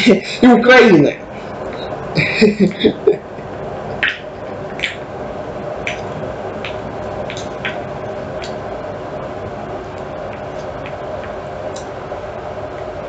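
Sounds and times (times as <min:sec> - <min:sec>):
electric kettle rumbling hiss: 0:00.0 - 0:13.0.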